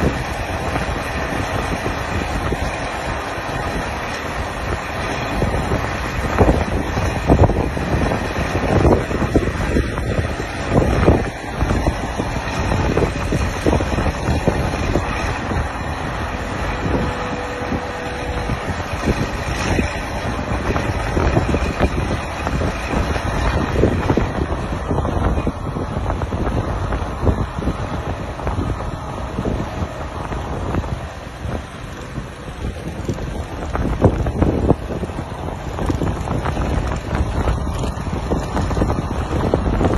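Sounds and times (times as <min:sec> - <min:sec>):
diesel engines running: 0:00.0 - 0:39.9
wind buffeting microphone: 0:00.0 - 0:39.9.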